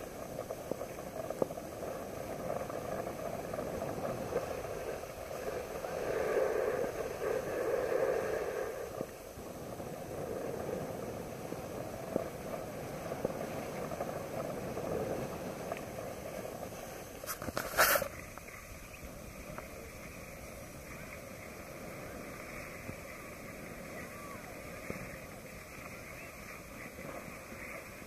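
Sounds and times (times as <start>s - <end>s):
skis scraping over snow: 0.0s - 28.0s.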